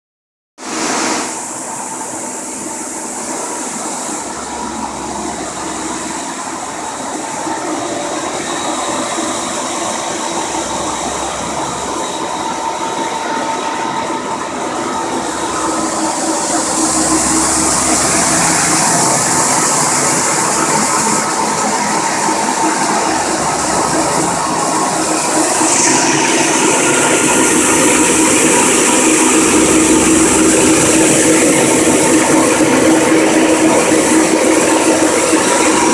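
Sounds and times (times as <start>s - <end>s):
machine hum: 0.7s - 35.9s.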